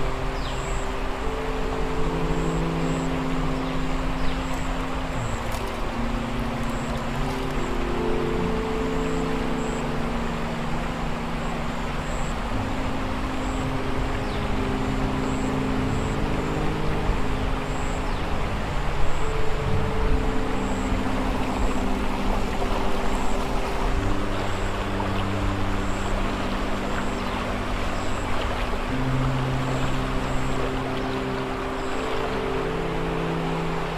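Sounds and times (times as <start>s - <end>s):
creek water rushing over rocks: 0.0s - 33.9s
low musical drone: 0.0s - 33.9s.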